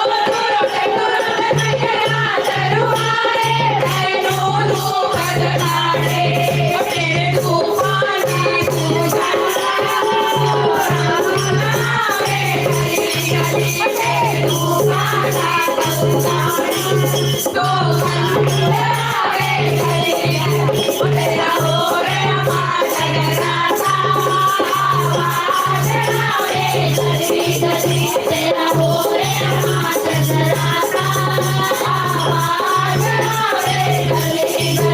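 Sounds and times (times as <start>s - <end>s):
devotional singing: 0.0s - 34.9s
rattling hand percussion: 0.0s - 34.9s.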